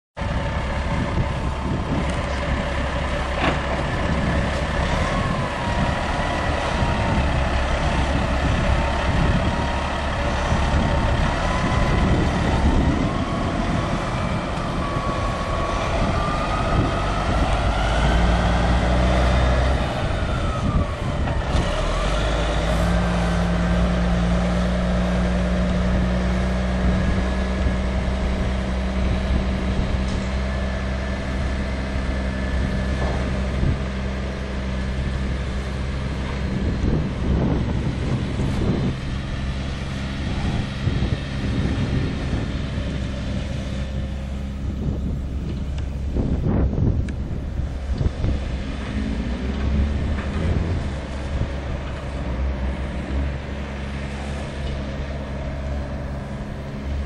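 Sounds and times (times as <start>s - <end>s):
diesel truck engine under load: 0.2s - 57.0s
rising engine whine: 0.2s - 57.0s.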